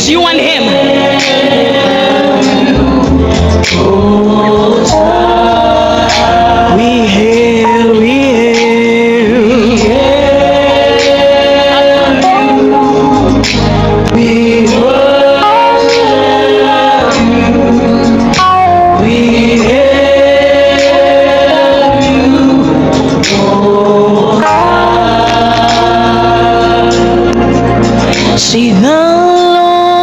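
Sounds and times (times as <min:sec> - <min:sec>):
low bass notes: 0:00.0 - 0:30.0
voices singing long notes: 0:00.3 - 0:30.0.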